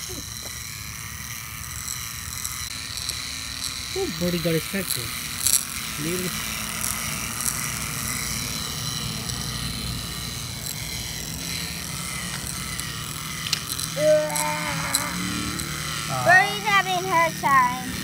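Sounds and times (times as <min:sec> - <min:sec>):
toy motor and gears whirring: 0:00.0 - 0:18.0.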